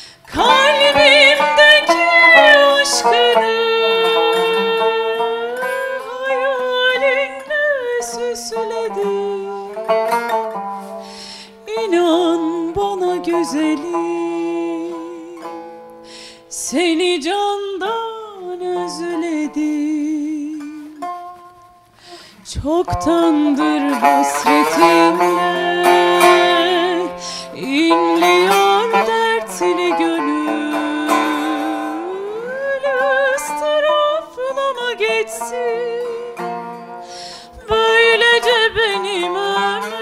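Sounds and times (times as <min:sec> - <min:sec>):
woman singing: 0:00.0 - 0:10.2, 0:11.6 - 0:15.7, 0:16.5 - 0:21.2, 0:22.4 - 0:40.0
plucked long-necked lute: 0:00.0 - 0:40.0.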